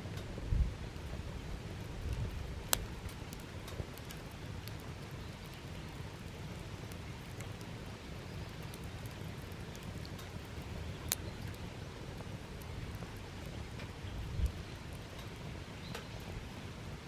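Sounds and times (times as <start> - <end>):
campfire crackling: 0.0 - 17.0
fire popping and snapping: 0.0 - 17.0.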